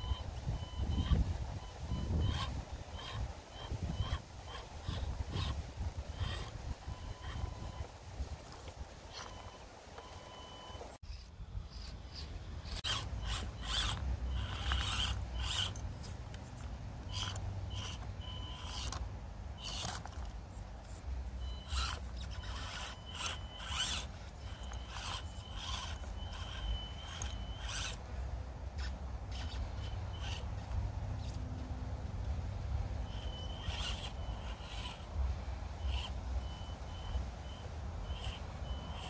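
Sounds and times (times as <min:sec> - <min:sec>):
small electric motor whining: 0:00.0 - 0:19.0, 0:19.6 - 0:20.2, 0:20.8 - 0:31.4, 0:33.0 - 0:39.0.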